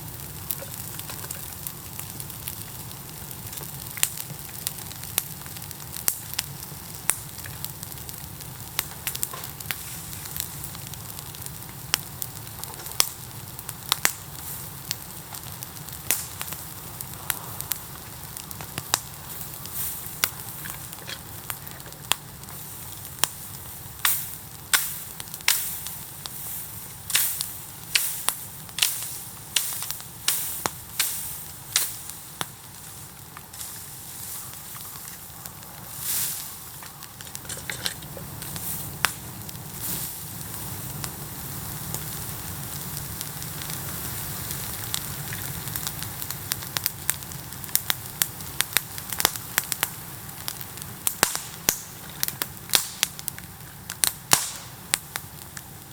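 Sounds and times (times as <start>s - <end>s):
bamboo cracking and popping: 0.0s - 16.6s, 17.2s - 23.4s, 24.0s - 39.6s, 44.7s - 55.7s
bonfire flame rushing: 0.0s - 55.9s.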